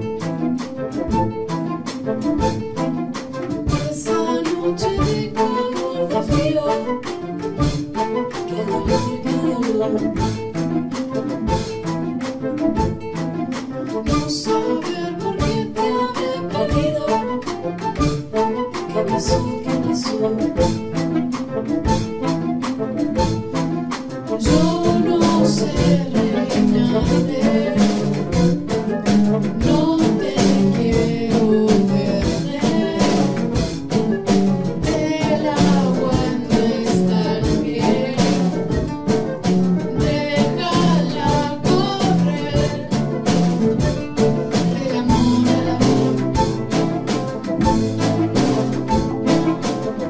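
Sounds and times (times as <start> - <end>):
drum kit beat: 0.0 - 50.0
live band playing: 0.0 - 50.0.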